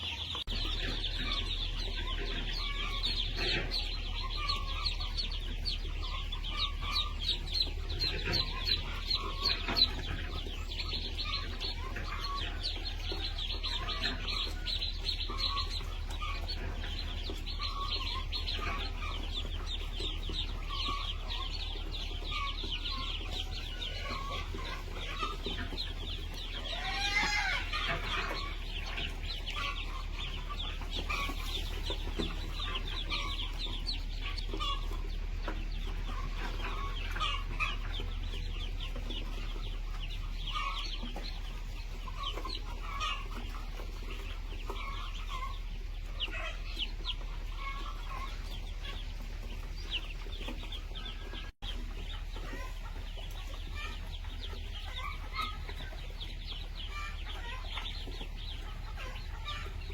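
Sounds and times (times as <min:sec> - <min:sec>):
chickens clucking: 0:00.0 - 0:59.9
high-pitched chick peeps: 0:00.0 - 0:59.9
loud bending chicken call: 0:00.5 - 0:49.6.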